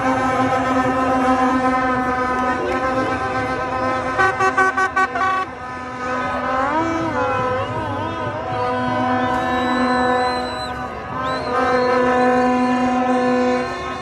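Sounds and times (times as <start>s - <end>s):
crowd voices: 0.0s - 14.0s
horns blaring: 0.0s - 14.0s
short horn toots: 0.0s - 14.0s.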